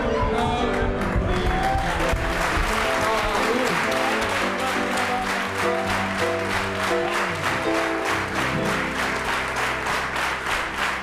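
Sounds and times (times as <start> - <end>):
audience applauding: 0.0 - 11.0
music with held notes: 0.0 - 11.0.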